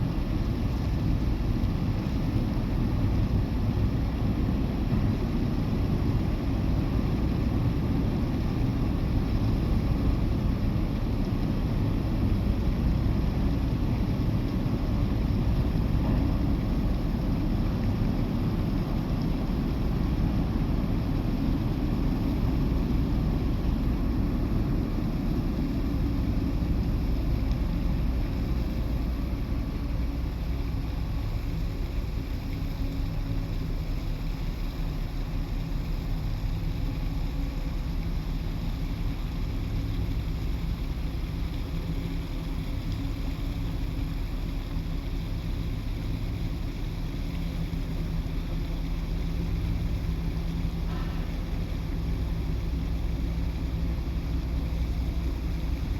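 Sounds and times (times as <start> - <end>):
ship engines droning: 0.0 - 33.7, 34.7 - 55.9.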